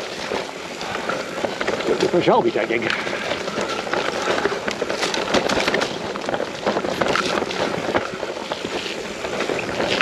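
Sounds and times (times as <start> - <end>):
bike rattling: 0.0 - 10.0
tyres crunching over stones: 0.0 - 10.0
wind buffeting the microphone: 0.0 - 10.0.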